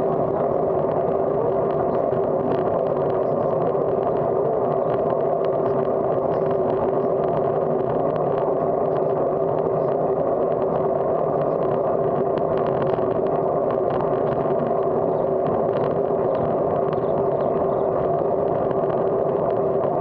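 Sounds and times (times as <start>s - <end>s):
faint rattling ticks: 0.0s - 20.0s
wind and road noise: 0.0s - 20.0s.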